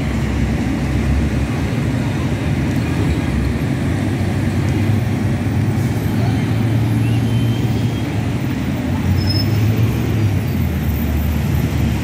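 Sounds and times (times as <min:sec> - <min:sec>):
road traffic rumbling past: 0:00.0 - 0:12.0.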